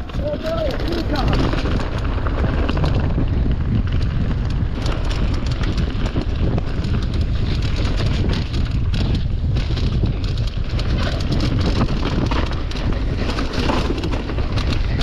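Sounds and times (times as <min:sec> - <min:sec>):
bike knocks and rattles: 0:00.0 - 0:15.0
bike tyres rolling over leaves: 0:00.0 - 0:15.0
wind buffeting microphone: 0:00.0 - 0:15.0.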